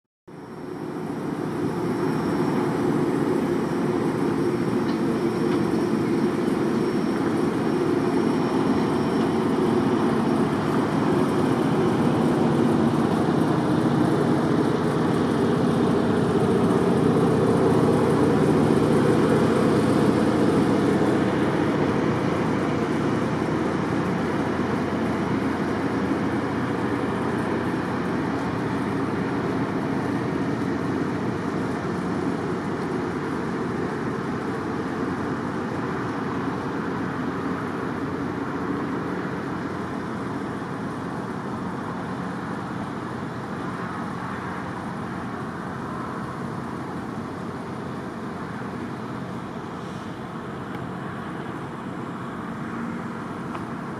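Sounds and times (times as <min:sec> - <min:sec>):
rail cars rolling on steel wheels: 0:00.3 - 0:53.9.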